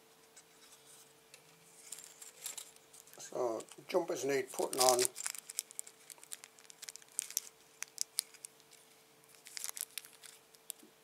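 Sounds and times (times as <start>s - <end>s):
faint steady hum: 0.0s - 11.0s
plastic bag crinkling: 1.8s - 10.8s.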